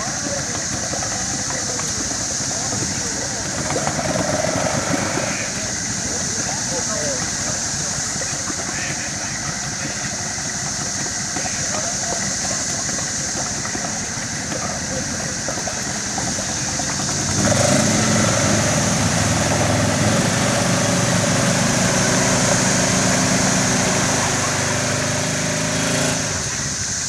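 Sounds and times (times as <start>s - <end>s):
vehicle engines working under load: 0.0s - 27.0s.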